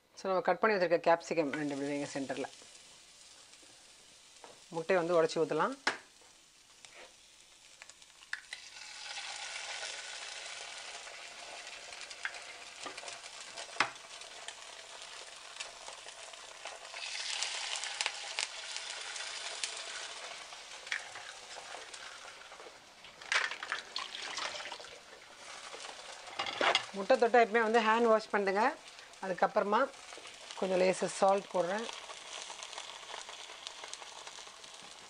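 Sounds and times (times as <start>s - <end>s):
eggs sizzling in a frying pan: 0.8s - 35.0s.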